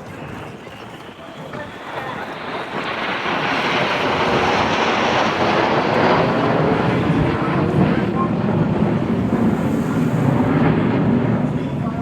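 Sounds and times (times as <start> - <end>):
jet aircraft roaring past: 0.0 - 12.0.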